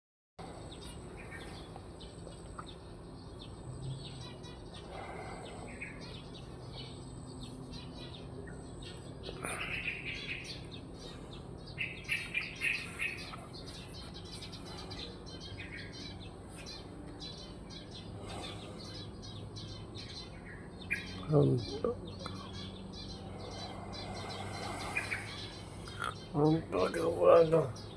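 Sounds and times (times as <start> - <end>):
small birds chirping: 0.4 - 27.9.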